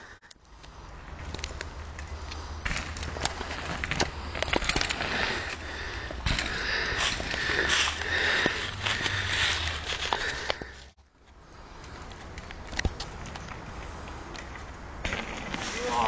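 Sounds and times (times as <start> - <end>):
outdoor rumbling noise: 0.0 - 16.0.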